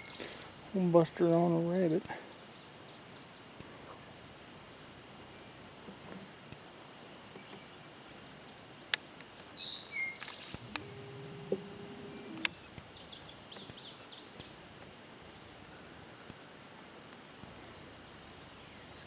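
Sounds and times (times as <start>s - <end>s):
crickets chirping chorus: 0.0s - 19.0s.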